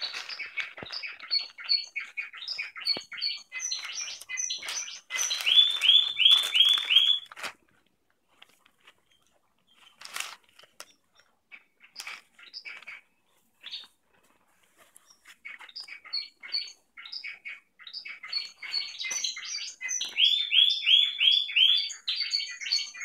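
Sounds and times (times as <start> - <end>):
canaries singing chirps and trills: 0.0 - 7.3, 9.0 - 23.0.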